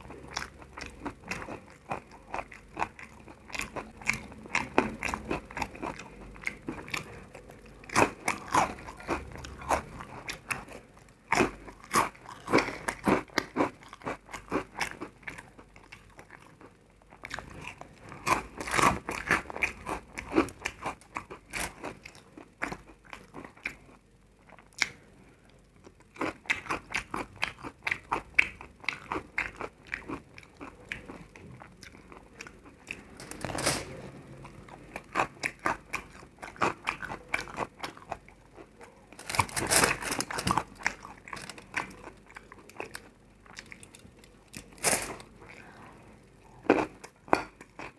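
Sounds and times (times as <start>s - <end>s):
food crunching and chewing: 0.0s - 47.9s.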